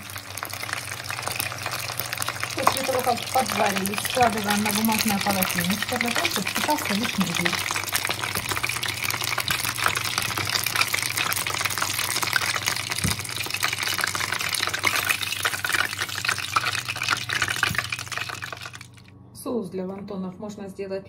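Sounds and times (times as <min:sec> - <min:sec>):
food deep-frying in oil: 0:00.0 - 0:19.1
low steady hum: 0:00.0 - 0:21.0.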